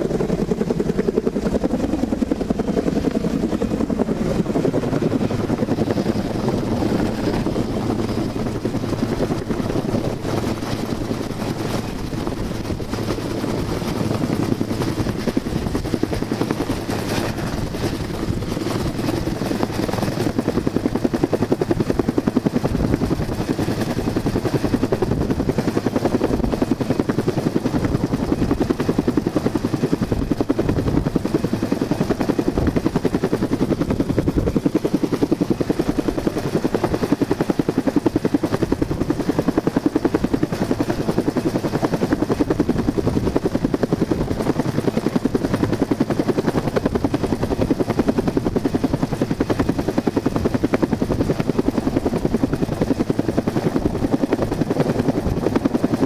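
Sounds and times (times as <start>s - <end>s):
helicopter rotor beating: 0.0s - 56.0s.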